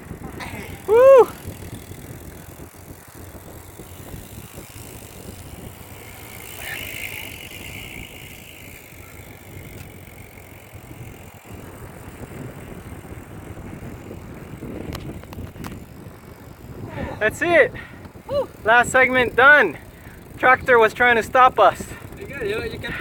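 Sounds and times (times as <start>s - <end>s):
tyre road noise: 0.0s - 23.0s
wind rush over microphone: 0.0s - 23.0s.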